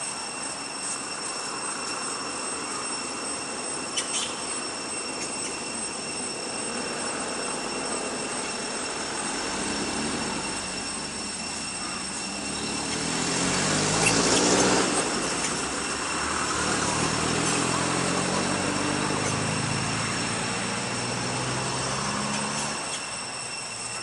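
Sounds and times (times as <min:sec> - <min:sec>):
engine running: 0:00.0 - 0:24.0
steady high-pitched tones: 0:00.0 - 0:24.0.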